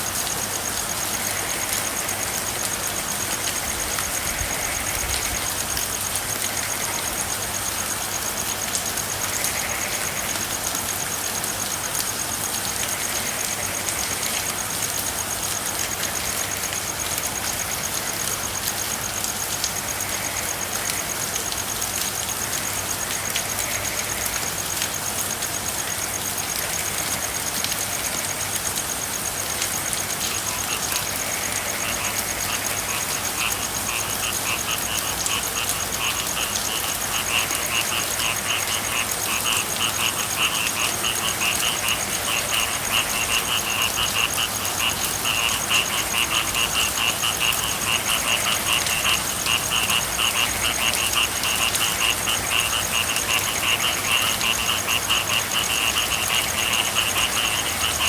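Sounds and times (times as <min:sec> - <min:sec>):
frogs calling in pulsed trills: 0:00.0 - 0:58.0
rain: 0:00.0 - 0:58.0.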